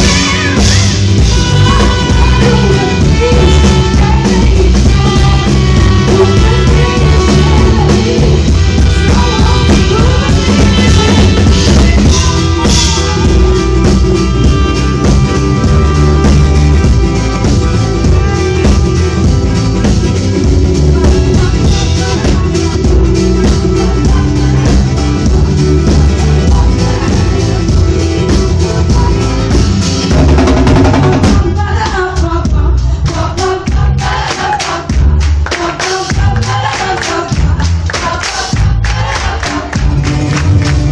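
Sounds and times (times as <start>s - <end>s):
live rock band playing: 0.0s - 40.9s
people singing: 0.0s - 40.9s.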